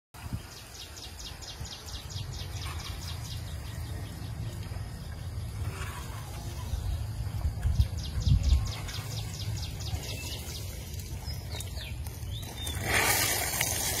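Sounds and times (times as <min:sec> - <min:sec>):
low steady rumble: 0:00.2 - 0:14.0.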